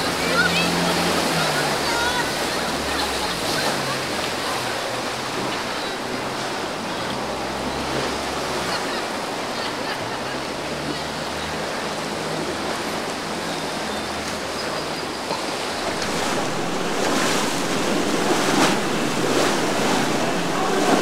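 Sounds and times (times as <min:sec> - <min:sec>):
boat engines droning: 0:00.0 - 0:21.0
surf and breaking waves: 0:00.0 - 0:21.0
water splashes: 0:00.0 - 0:21.0.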